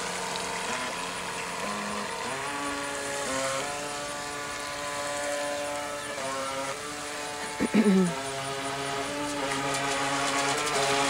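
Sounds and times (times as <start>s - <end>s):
toy boat electric motor whining: 0.0s - 11.0s.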